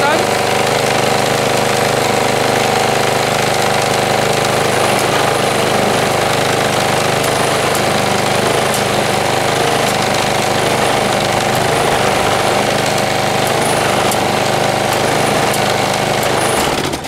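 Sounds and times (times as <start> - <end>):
lawnmower engine running: 0.0 - 17.0.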